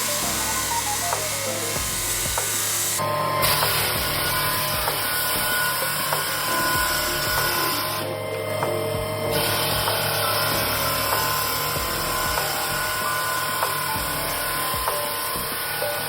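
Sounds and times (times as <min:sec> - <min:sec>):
floor sander grinding wood: 0:00.0 - 0:16.0.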